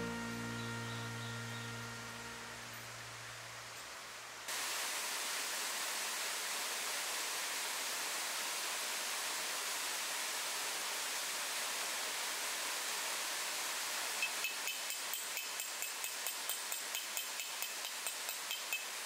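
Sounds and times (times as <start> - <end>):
forest ambience hiss: 0.0 - 19.0.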